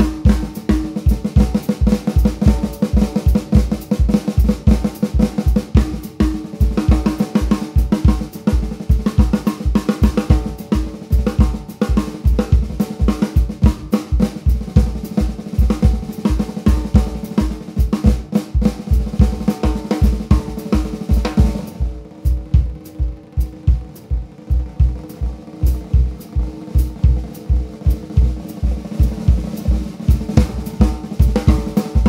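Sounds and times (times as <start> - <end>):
repeating bass drum: 0.0 - 32.0
snare drum rolls: 0.0 - 32.0.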